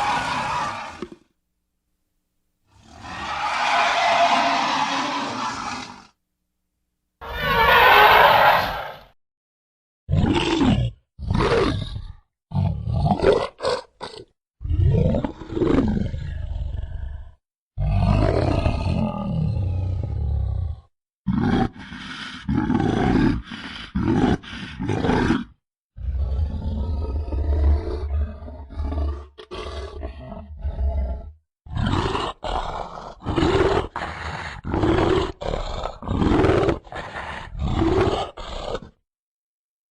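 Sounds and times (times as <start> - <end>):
monster roars and snarls: 0.0 - 1.2, 2.8 - 6.2, 7.2 - 9.1, 10.1 - 39.0.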